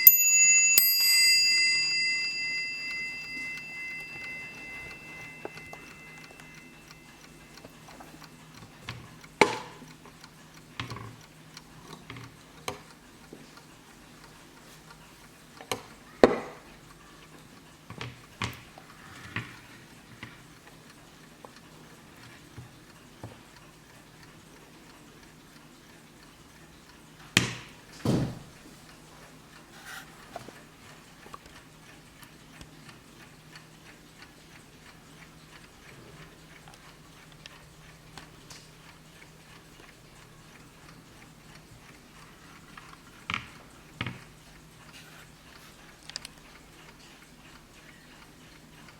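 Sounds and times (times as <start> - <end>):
clock ticking: 1.0 - 27.8, 28.5 - 48.9.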